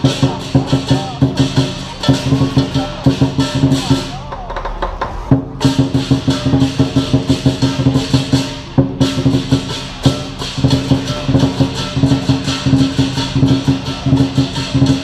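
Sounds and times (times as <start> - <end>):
gong: 0.0 - 4.3, 5.4 - 15.0
big drum beating: 0.0 - 15.0
cymbals crashing: 0.0 - 15.0.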